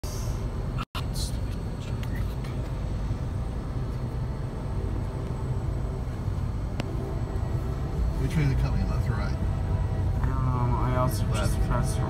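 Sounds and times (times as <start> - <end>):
traffic rumble inside car: 0.0 - 12.0.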